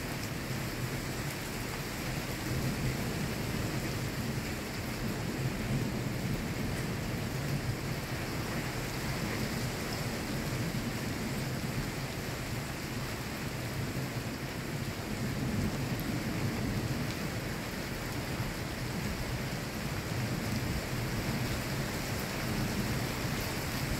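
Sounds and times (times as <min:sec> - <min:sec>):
steady rain: 0:00.0 - 0:23.9
low rumble of thunder: 0:02.0 - 0:23.9.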